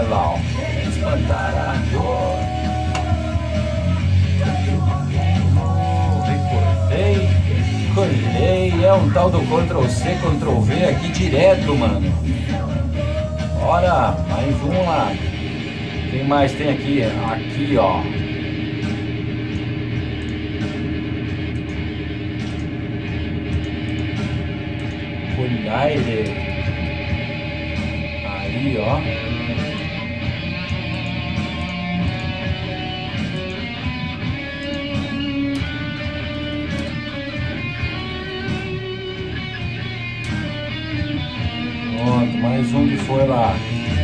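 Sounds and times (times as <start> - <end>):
instrumental rock music: 0.0 - 44.0.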